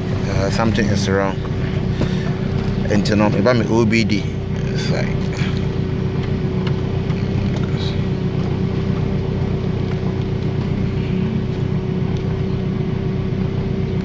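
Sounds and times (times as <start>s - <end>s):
car engine idling: 0.0s - 14.0s
constant whine: 0.0s - 14.0s.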